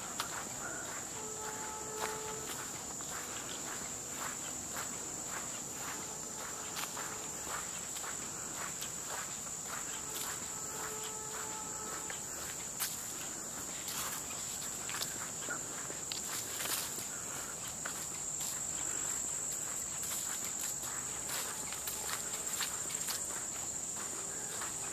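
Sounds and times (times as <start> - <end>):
footsteps on dirt and grass: 0.0 - 24.9
high-pitched insect chorus: 0.0 - 24.9.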